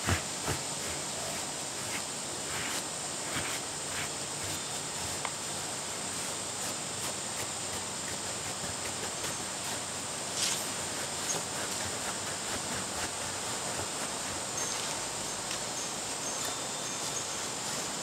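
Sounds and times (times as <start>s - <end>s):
brush stroking dog's coat: 0.0s - 18.0s
high-pitched hiss: 0.0s - 18.0s.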